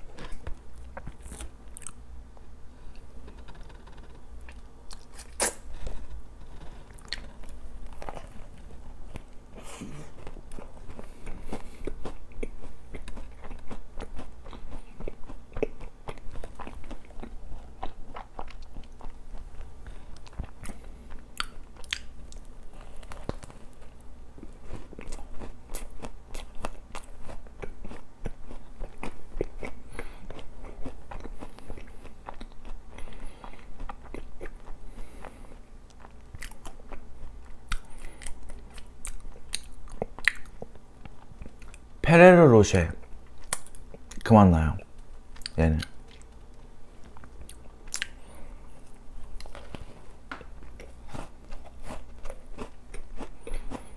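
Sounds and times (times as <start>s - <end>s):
chewing and crunching doughnut: 0.0s - 53.9s.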